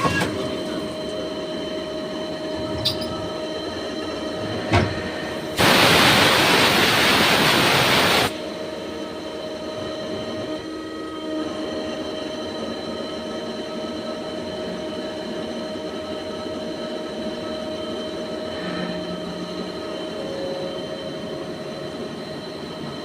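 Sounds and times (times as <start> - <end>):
lathe running with high whines: 0.0 - 23.0.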